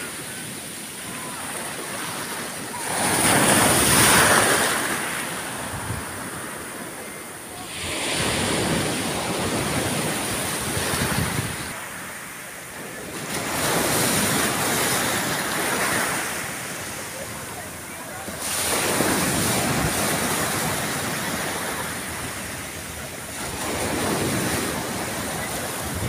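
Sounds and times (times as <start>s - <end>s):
waves breaking on pebble beach: 0.0s - 12.2s, 13.0s - 26.0s.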